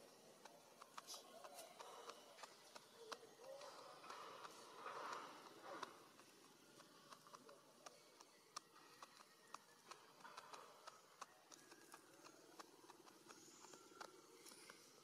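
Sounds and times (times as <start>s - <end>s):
faint low hum: 0.0s - 15.0s
faint small clicks and ticks: 0.0s - 15.0s.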